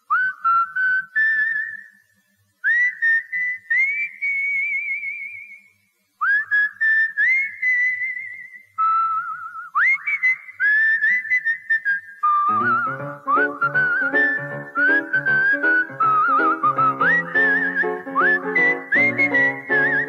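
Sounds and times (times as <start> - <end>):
person whistling a tune: 0.1 - 2.0, 2.6 - 20.0.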